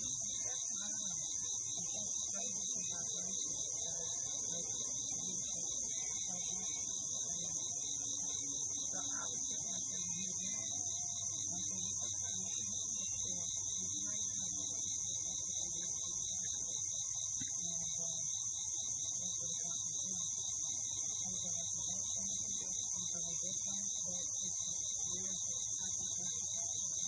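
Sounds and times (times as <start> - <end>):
fast pulsing insect layer: 0.0 - 27.0
high-pitched insect chorus: 0.0 - 27.0.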